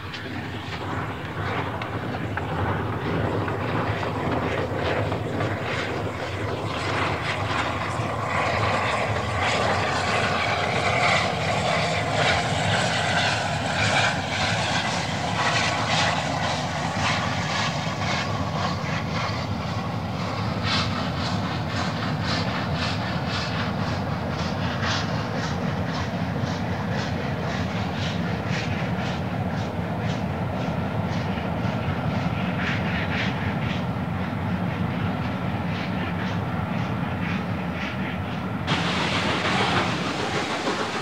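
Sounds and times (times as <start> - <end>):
steam locomotive chugging: 0.0 - 41.0.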